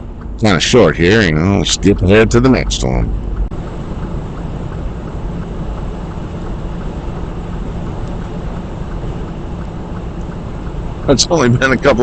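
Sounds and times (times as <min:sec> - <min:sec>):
road and wind noise: 0:00.0 - 0:12.0
truck diesel engine running: 0:00.0 - 0:12.0.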